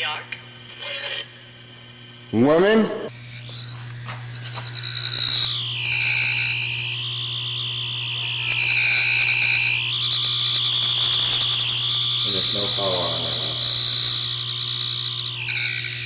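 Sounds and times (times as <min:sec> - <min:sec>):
electronic meter whine: 0:00.0 - 0:16.0
steady low hum: 0:00.0 - 0:16.0.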